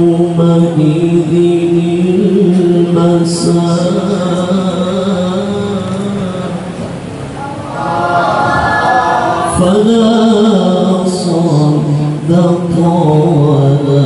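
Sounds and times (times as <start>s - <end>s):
man reciting melodically into microphone: 0.0s - 7.3s, 9.4s - 14.0s.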